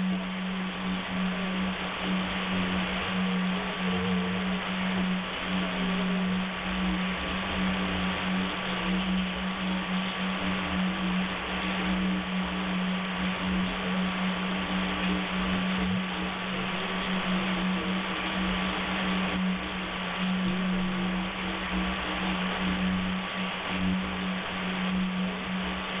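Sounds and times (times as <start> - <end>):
low buzz tone: 0.0 - 26.0
weak drifting radio tones: 0.0 - 26.0.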